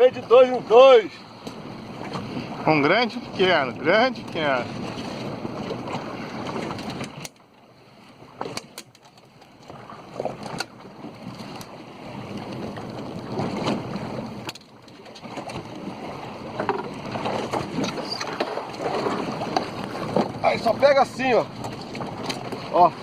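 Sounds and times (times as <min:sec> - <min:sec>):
water at sea: 0:00.0 - 0:23.0
wind: 0:00.0 - 0:23.0.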